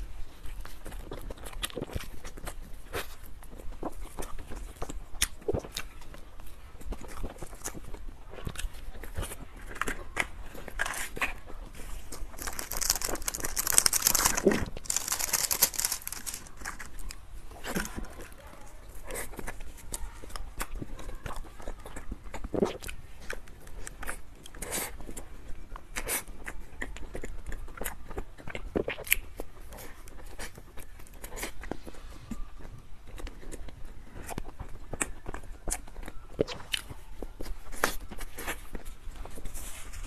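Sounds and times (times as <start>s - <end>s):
close-miked chewing: 0.0s - 40.0s.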